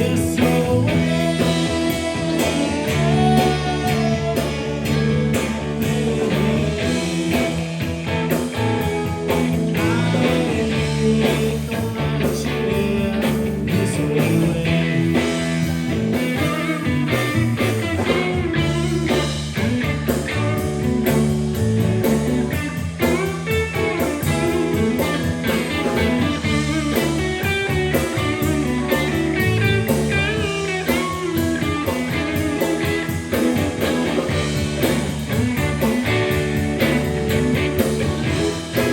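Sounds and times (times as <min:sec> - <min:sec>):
blues-rock band playing: 0:00.0 - 0:38.9
electric guitar bending: 0:00.0 - 0:38.9.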